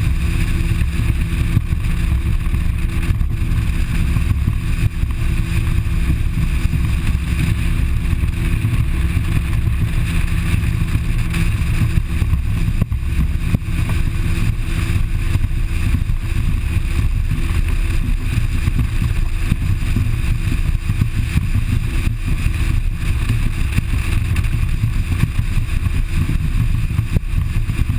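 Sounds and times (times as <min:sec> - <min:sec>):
motorboat engine drone: 0:00.0 - 0:27.9
wind rushing over microphone: 0:00.0 - 0:27.9.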